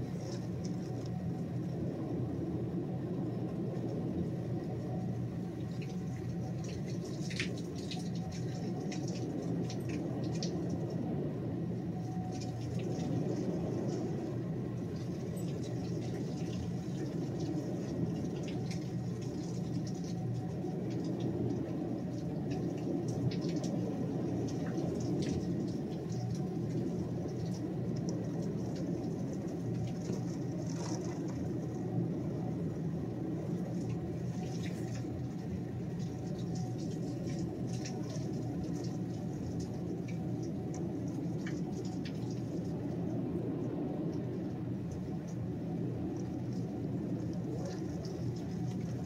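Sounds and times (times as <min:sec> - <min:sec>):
raindrops ticking and splashing: 0:00.0 - 0:01.7, 0:03.7 - 0:11.1, 0:11.7 - 0:43.2, 0:44.2 - 0:49.0.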